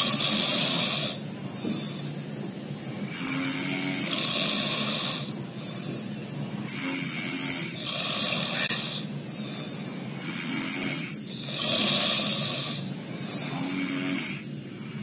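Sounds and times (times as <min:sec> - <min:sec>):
man snoring through nose: 0:00.0 - 0:02.1, 0:02.9 - 0:05.8, 0:06.6 - 0:15.0.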